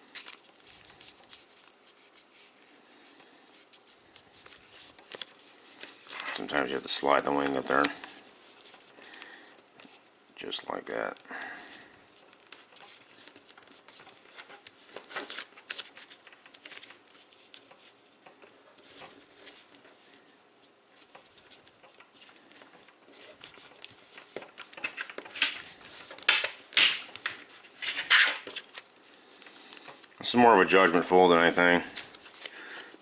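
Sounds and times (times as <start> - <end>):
paper rustling and crinkling: 0.0 - 10.0, 10.9 - 30.2, 31.6 - 33.0.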